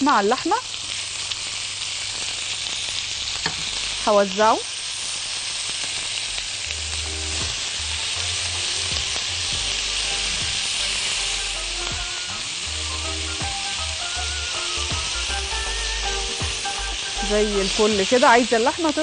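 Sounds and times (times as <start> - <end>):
meat and onions sizzling: 0.0 - 19.0.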